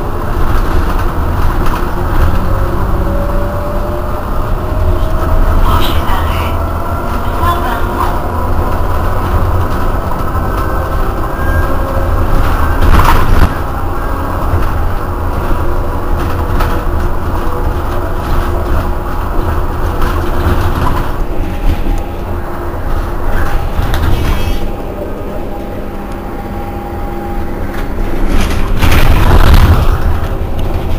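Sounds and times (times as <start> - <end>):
bus engine idling: 0.0 - 30.9
loud rush of noise: 0.0 - 30.9.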